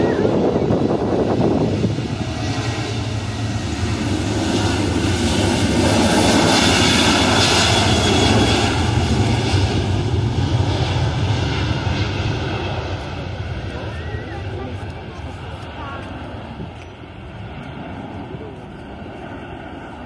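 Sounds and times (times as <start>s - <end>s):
airplane engines passing: 0.0s - 20.0s.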